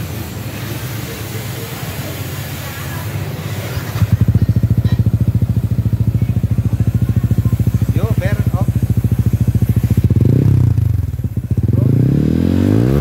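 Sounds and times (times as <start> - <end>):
motorcycle engine idling: 0.0 - 12.3.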